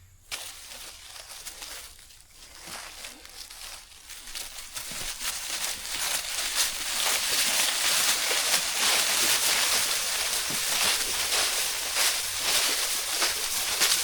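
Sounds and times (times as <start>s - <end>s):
branches dragged through brush: 0.2s - 14.0s.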